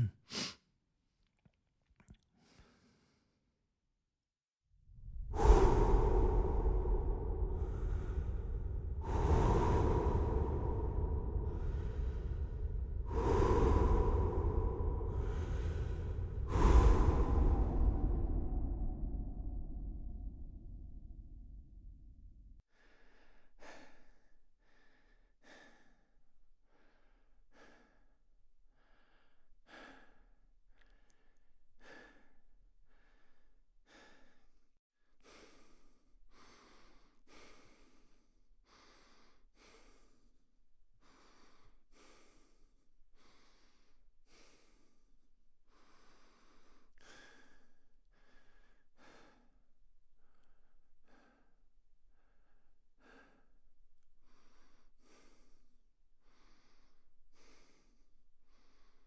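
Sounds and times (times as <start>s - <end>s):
person breathing fast and hard: 2.4s - 3.4s, 5.0s - 34.6s, 35.2s - 40.4s, 41.0s - 53.6s, 54.2s - 59.0s.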